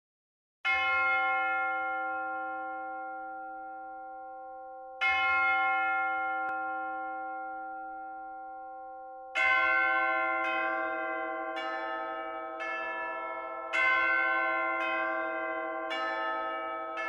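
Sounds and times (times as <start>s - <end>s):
bells ringing: 0.7s - 17.0s.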